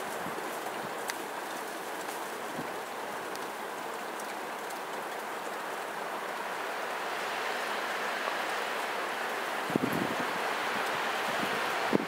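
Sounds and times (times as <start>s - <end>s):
wind rushing through trees: 0.0s - 12.0s.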